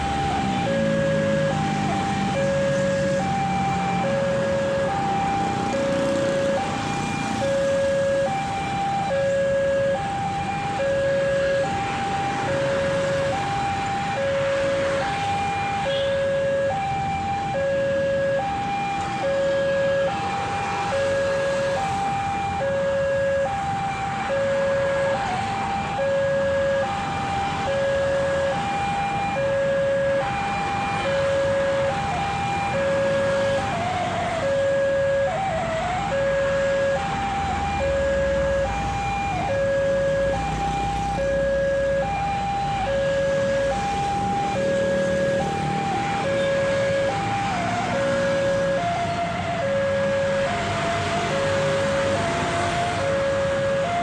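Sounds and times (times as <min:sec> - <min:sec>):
level-crossing warning siren: 0:00.0 - 0:54.0.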